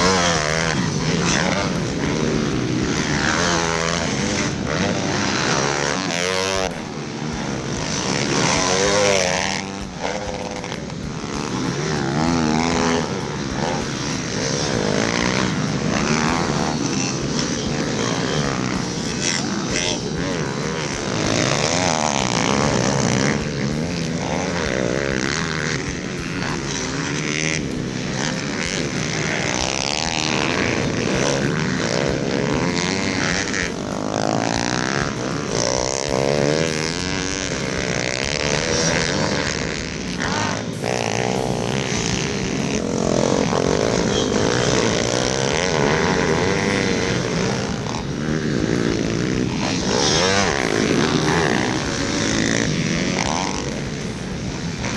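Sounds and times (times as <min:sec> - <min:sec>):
pit bike engines revving: 0:00.0 - 0:54.9.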